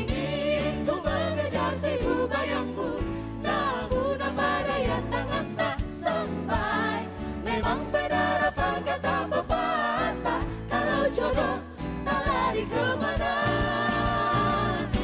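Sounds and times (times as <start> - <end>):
pop band music: 0.0 - 15.0.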